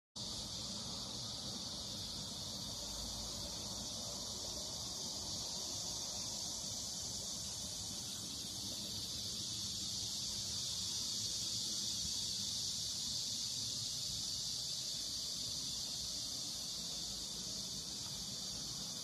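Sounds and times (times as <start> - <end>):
insects droning: 0.2 - 19.0.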